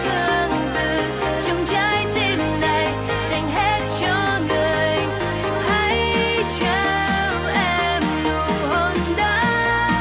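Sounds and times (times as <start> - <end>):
pop music with steady beat: 0.0 - 10.0.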